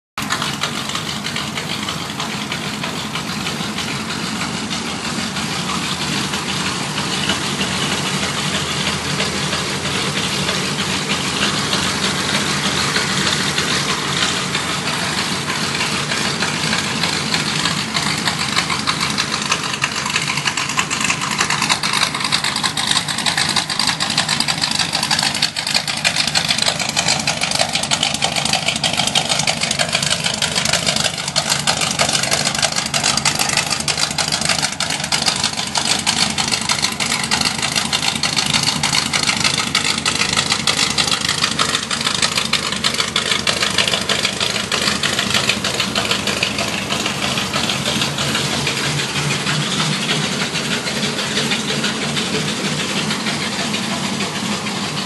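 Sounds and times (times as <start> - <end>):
car engine idling: 0.2 - 55.0.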